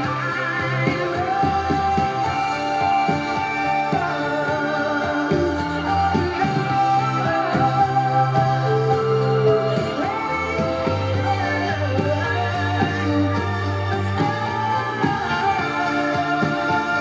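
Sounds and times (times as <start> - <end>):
pop ballad music: 0.0 - 17.0.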